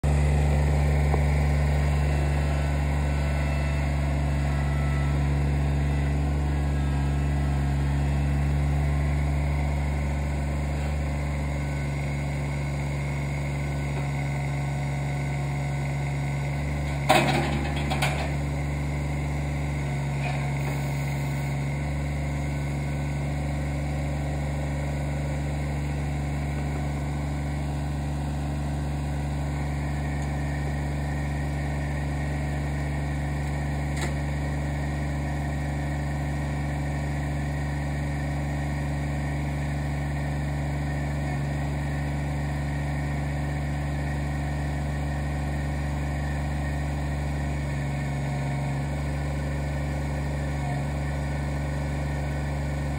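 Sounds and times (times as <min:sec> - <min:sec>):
tractor diesel engine idling: 0:00.0 - 0:52.9.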